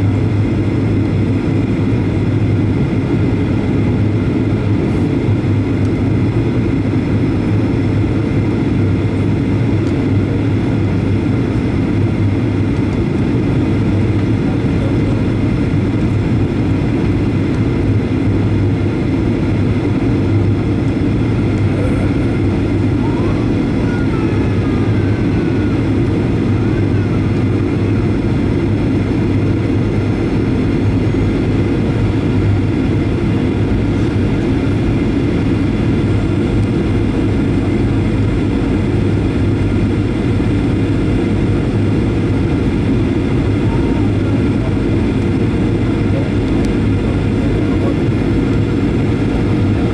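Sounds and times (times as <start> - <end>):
jet engine drone and airflow: 0.0 - 49.9.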